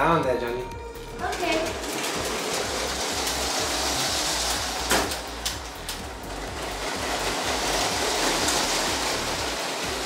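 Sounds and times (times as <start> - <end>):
toy train motors whirring: 1.2 - 10.0.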